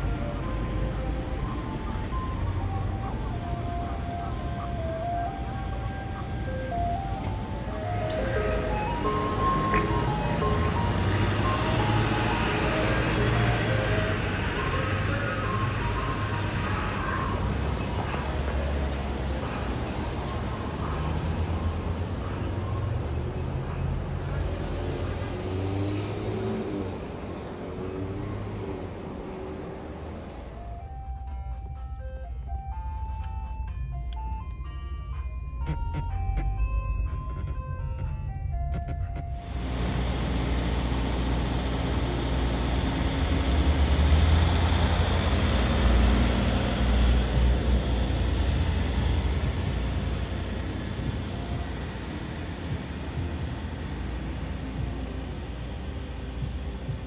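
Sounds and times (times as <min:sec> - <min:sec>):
ice cream truck jingle: 0:00.0 - 0:25.3, 0:29.6 - 0:57.0
vehicle engine running: 0:00.0 - 0:30.2, 0:34.1 - 0:57.0
traffic noise: 0:00.0 - 0:57.0.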